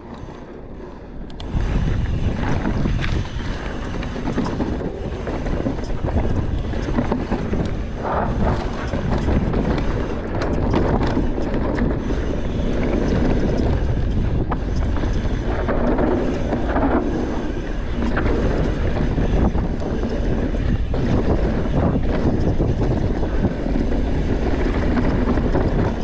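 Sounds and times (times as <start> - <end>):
bike clicks and rattles: 0.0 - 26.0
tyres rumbling on dirt trail: 0.0 - 26.0
wind buffeting microphone: 0.0 - 26.0.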